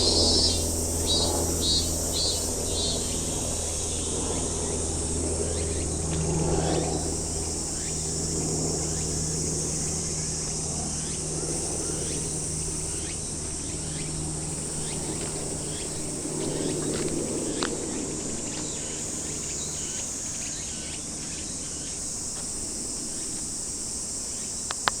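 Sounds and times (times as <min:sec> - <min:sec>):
cicadas singing: 0:00.0 - 0:25.0
low steady hum: 0:00.0 - 0:25.0.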